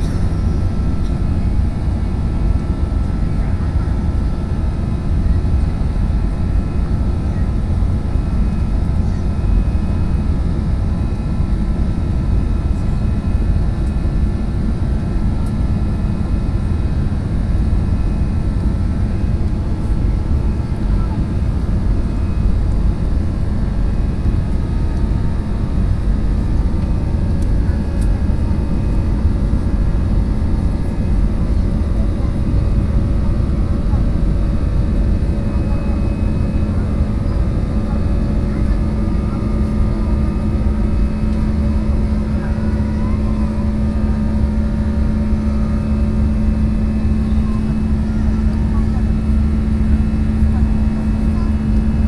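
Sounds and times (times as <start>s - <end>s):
airliner cabin engine rumble: 0.0s - 52.0s.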